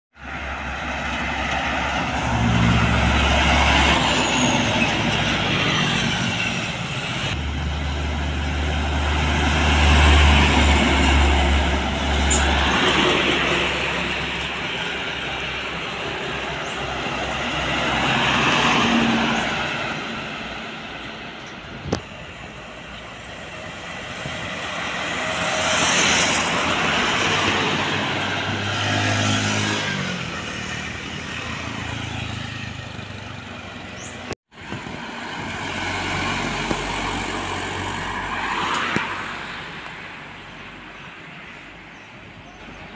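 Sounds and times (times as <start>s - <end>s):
diesel trucks passing on highway: 0.2s - 42.9s.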